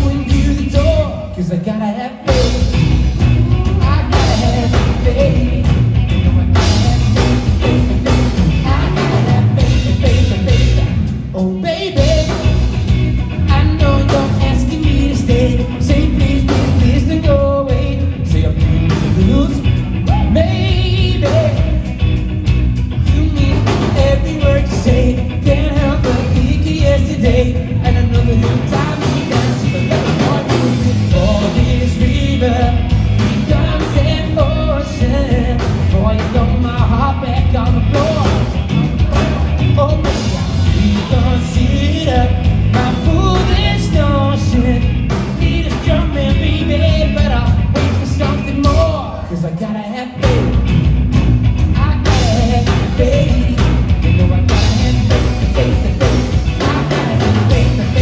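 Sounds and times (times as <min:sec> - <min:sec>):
person singing: 0:00.0 - 0:22.0, 0:23.0 - 0:50.7, 0:51.7 - 0:58.0
live rock band playing: 0:00.0 - 0:58.0.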